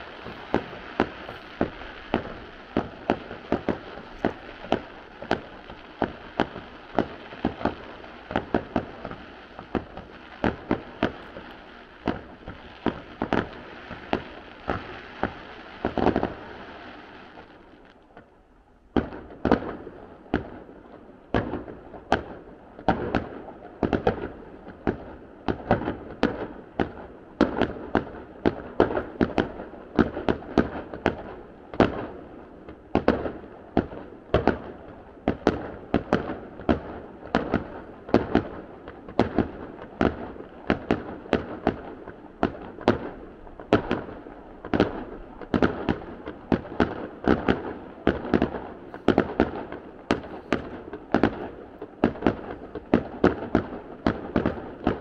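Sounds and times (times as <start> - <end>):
fireworks bangs: 0.0 - 17.9, 21.3 - 55.0.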